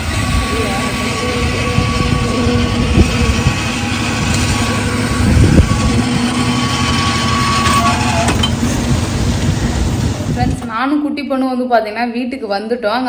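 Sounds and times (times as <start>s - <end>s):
concrete mixer engine drone: 0.0s - 10.8s.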